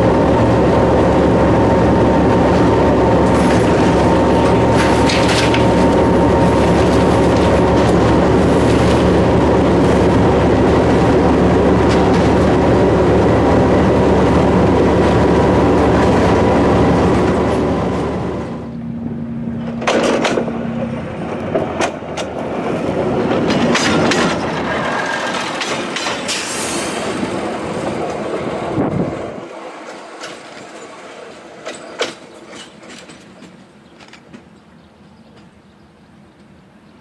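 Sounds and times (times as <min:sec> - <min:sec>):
diesel railcar engine: 0:00.0 - 0:37.0
wheels clicking over rail joints: 0:02.4 - 0:16.4, 0:19.6 - 0:36.6.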